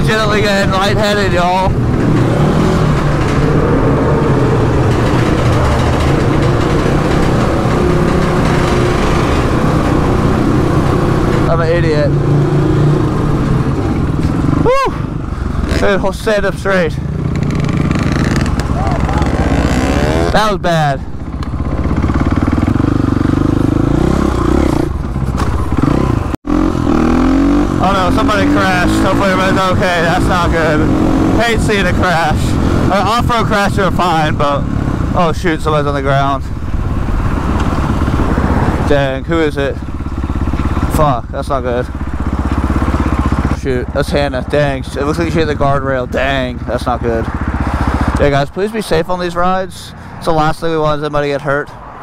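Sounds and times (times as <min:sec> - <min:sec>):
motorcycle engines in a tunnel: 0:00.0 - 0:52.0.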